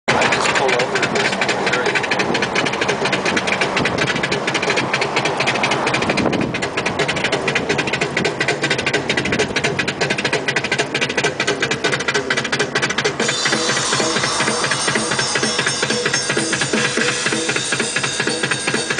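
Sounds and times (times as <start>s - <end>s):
car engine and road noise: 0.1s - 18.9s
dense fast clatter: 0.1s - 18.9s.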